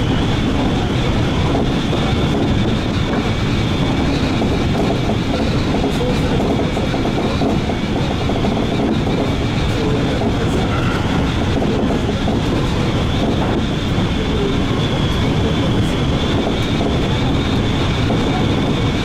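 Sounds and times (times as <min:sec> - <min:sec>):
rumble of train wheels on rails: 0:00.0 - 0:19.0.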